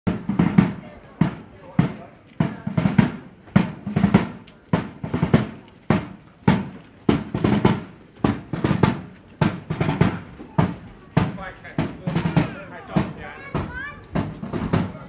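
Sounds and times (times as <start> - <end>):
side drum marching cadence: 0.1 - 15.0.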